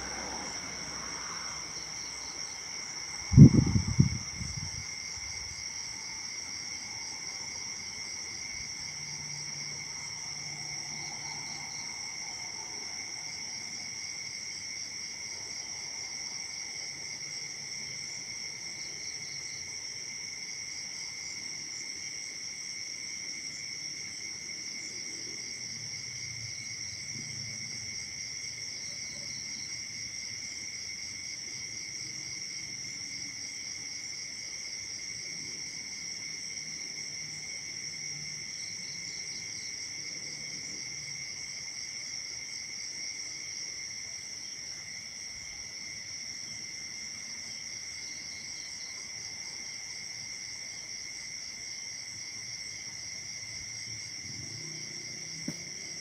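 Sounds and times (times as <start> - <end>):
crickets and insects chirping: 0.0 - 56.0.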